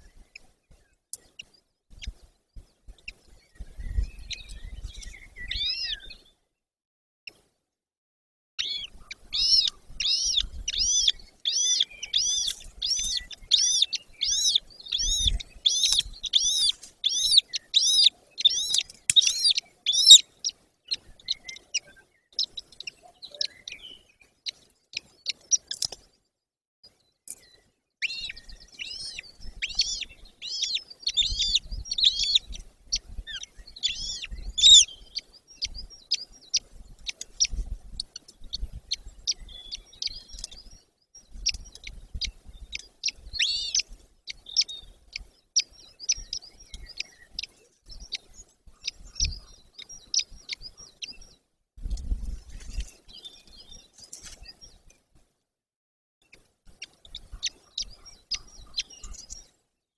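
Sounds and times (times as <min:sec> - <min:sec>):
eagle chicks peeping: 0:00.0 - 0:06.3, 0:08.6 - 0:26.2, 0:27.3 - 0:54.9, 0:56.3 - 0:59.5.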